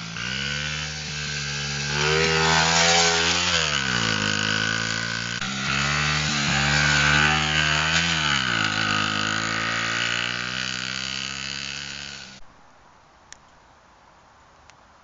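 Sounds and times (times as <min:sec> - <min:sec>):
small motorbike engine revving: 0:00.0 - 0:12.4.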